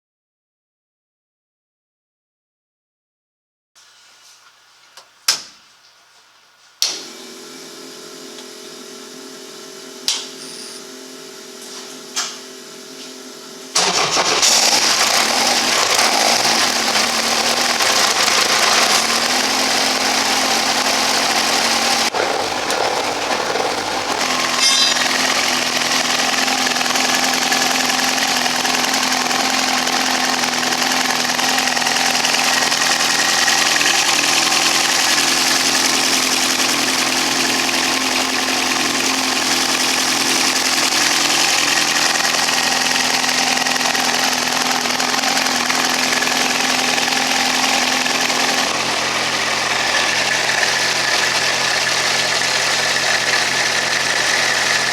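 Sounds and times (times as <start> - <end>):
engine starting and running: 6.8 - 54.9
steady electric whir: 6.8 - 54.9.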